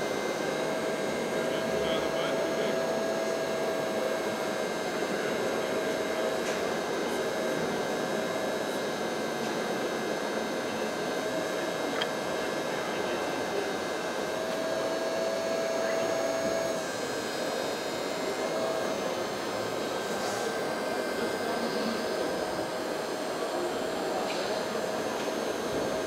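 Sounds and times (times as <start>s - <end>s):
hydraulic pump whirring: 0.0s - 26.0s.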